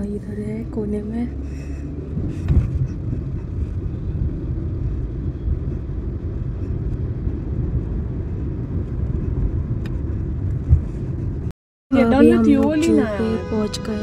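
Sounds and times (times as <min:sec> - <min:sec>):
car engine rumble: 0:00.0 - 0:14.0
road noise: 0:00.0 - 0:14.0.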